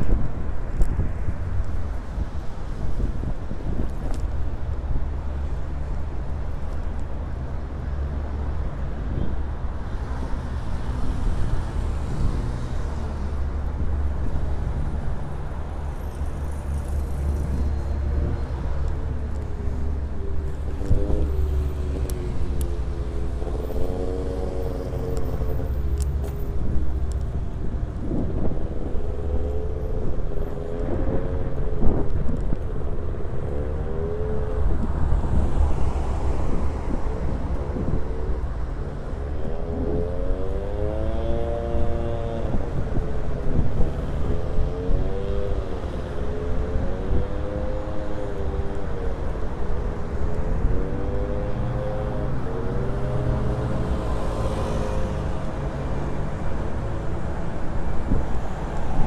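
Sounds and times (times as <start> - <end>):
wind buffeting microphone: 0.0 - 5.4, 9.0 - 59.0
passing car traffic: 0.0 - 59.0.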